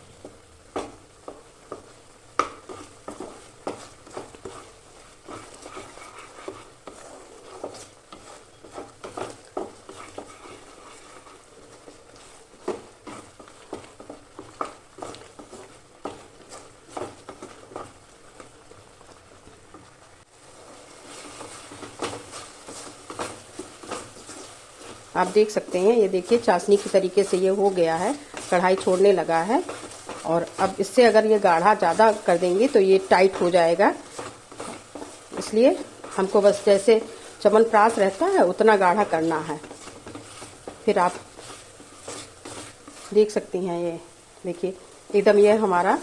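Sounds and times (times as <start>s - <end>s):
light sizzle: 0.0s - 46.0s
utensil scraping a pan: 2.4s - 18.0s, 20.6s - 43.5s.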